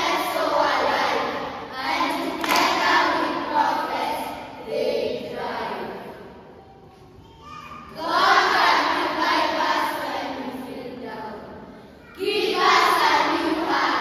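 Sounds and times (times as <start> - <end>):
children's choir in unison: 0.0 - 14.0.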